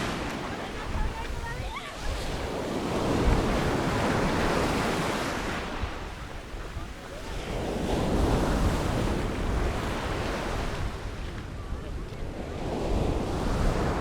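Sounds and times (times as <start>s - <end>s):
sea waves breaking on beach: 0.0s - 14.0s
wind rumbling on microphone: 0.0s - 14.0s.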